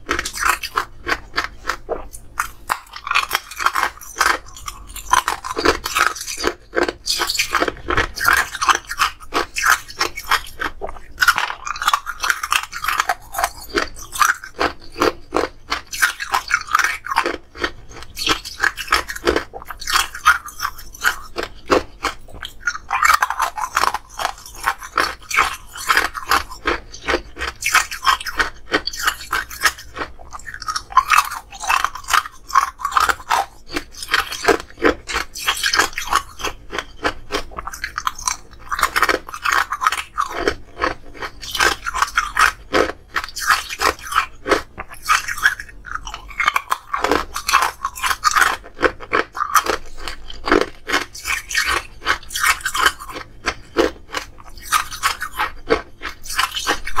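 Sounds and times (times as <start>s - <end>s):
ice cubes being chewed: 0.0s - 57.0s.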